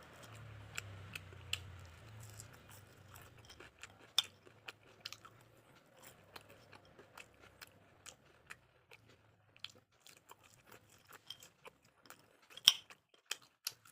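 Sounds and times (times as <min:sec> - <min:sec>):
chewing crunchy food: 0:00.0 - 0:13.9.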